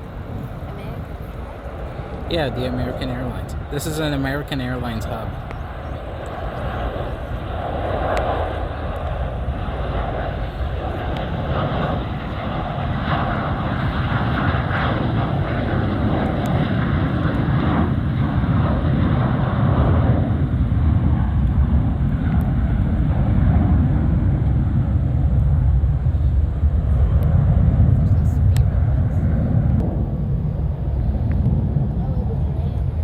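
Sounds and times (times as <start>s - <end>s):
jet airliner engine rumble: 0.0s - 33.0s.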